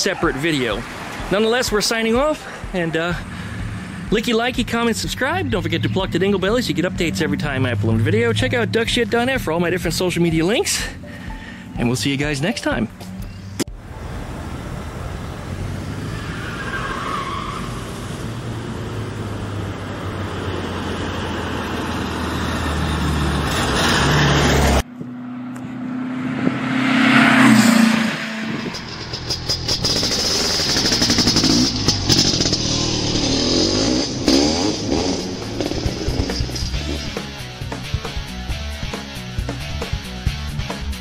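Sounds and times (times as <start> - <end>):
car engine running: 0.0 - 16.0, 18.0 - 41.0
vehicle passing: 0.0 - 38.6
traffic noise: 0.0 - 41.0.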